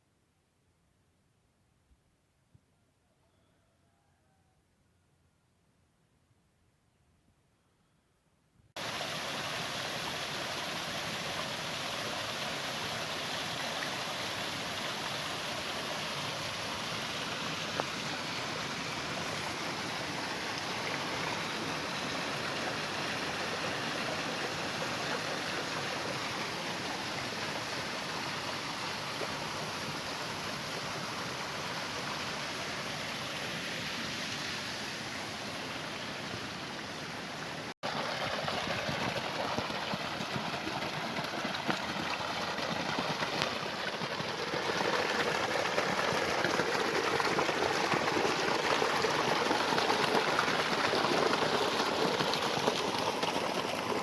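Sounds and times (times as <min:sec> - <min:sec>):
stream water rushing: 0:08.8 - 0:54.0.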